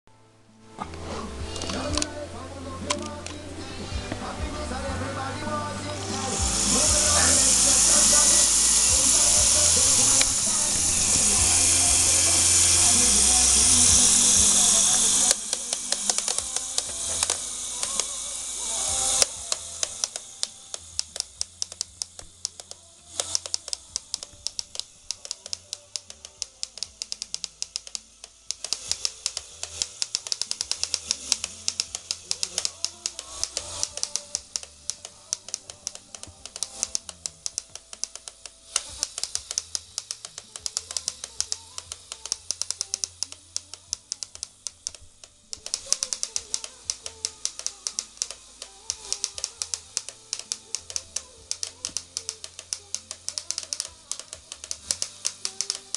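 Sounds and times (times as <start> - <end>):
electric motors whirring: 0.8 - 55.9
toy gears clicking: 1.4 - 2.2, 2.8 - 3.5, 5.6 - 55.9.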